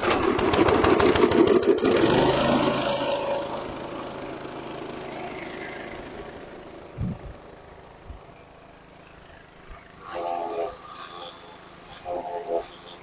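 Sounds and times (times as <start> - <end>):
small gasoline engine running rough: 0.0 - 13.0.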